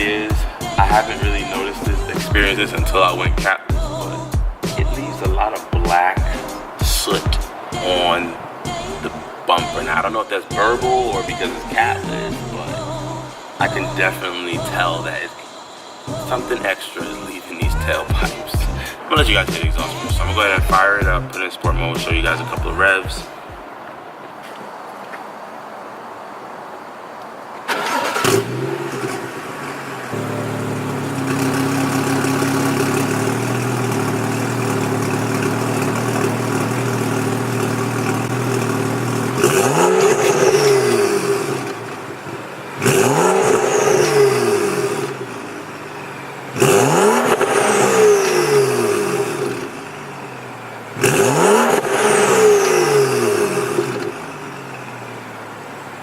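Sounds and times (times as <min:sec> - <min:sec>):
car engine revving: 0:00.0 - 0:23.8, 0:27.6 - 0:56.0
car engine starting and idling: 0:00.0 - 0:24.4, 0:26.0 - 0:56.0.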